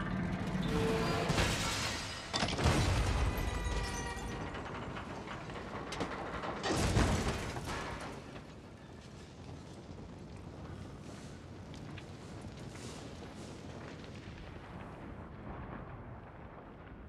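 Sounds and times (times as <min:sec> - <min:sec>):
falling debris crashing: 0:00.0 - 0:16.8
fire rumbling: 0:00.0 - 0:17.0.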